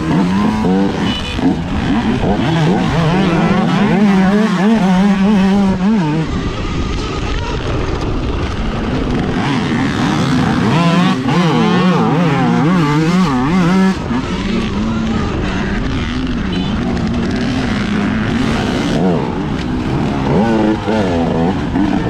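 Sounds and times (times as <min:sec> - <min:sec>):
dirt bike engine: 0:00.0 - 0:22.0
wind and terrain noise: 0:00.0 - 0:22.0.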